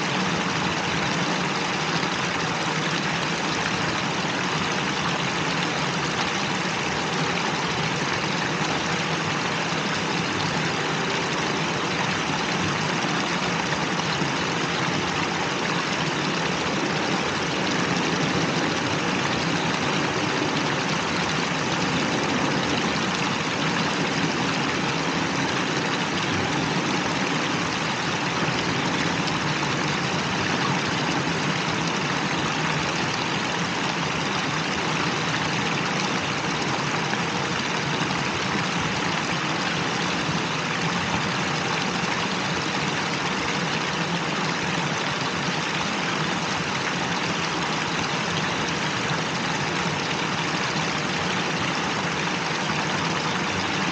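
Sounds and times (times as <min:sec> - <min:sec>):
fountain water splashing: 0:00.0 - 0:53.9.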